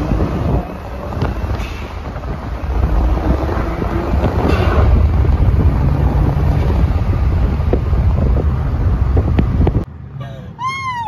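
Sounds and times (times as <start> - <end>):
wind buffeting microphone: 0.0 - 9.9
deep engine rumble accelerating: 0.0 - 10.5.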